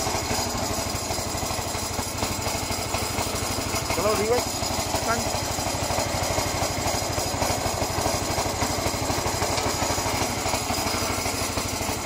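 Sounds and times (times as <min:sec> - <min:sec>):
mower engine running: 0:00.0 - 0:12.0.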